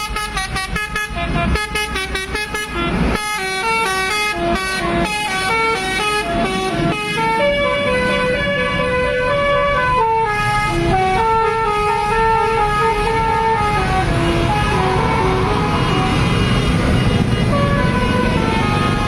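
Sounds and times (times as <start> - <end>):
multi-tone bus horn tune: 0.0 - 19.0.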